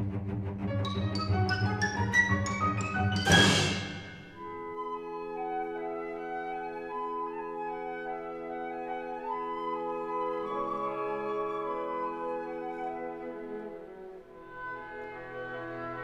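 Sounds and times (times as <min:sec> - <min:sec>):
soft orchestral music: 0:00.0 - 0:16.0.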